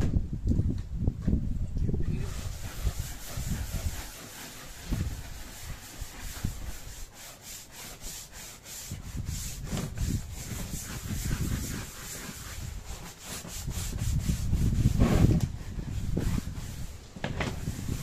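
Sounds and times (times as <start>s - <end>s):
hand scrubbing a surface: 2.0s - 18.0s.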